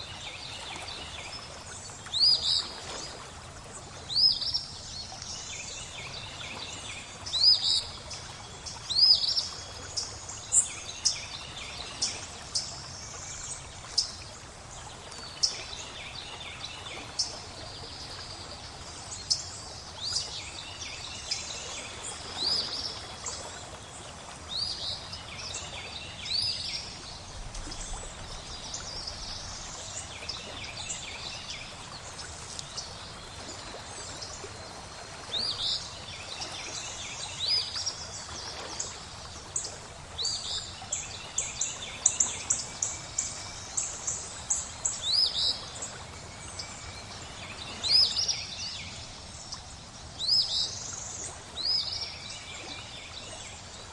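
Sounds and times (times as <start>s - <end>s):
flowing water hiss: 0.0s - 53.9s.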